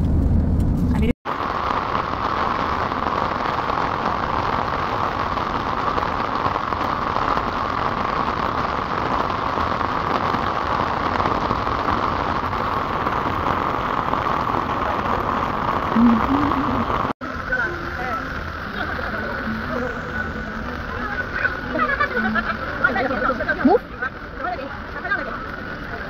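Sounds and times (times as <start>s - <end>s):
heavy rain on pavement: 1.2s - 26.0s.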